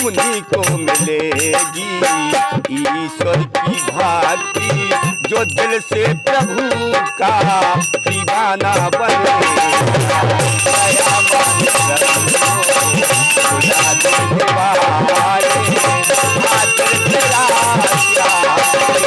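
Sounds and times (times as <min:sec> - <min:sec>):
hand drum beat: 0:00.0 - 0:19.0
held melody notes: 0:00.0 - 0:19.0.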